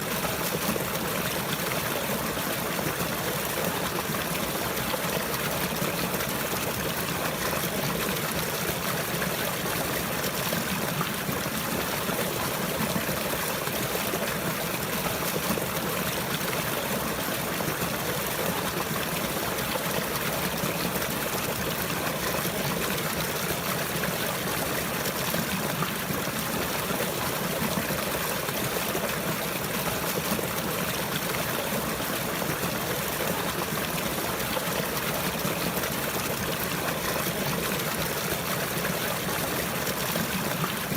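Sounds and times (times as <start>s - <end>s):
running water flowing: 0.0s - 40.9s.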